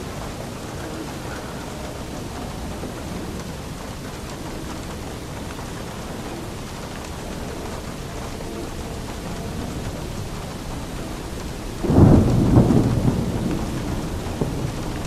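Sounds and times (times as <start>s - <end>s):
low rumble of thunder: 0.0s - 15.0s
steady rain falling: 0.0s - 15.0s.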